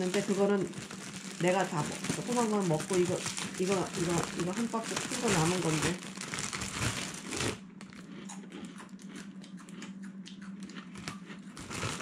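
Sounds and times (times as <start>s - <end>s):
low hum: 0.0s - 12.0s
person chewing cereal: 0.7s - 12.0s.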